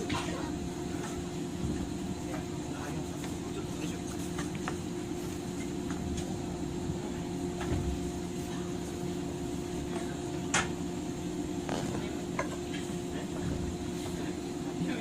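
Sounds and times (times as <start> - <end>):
train car equipment hum: 0.0 - 15.0.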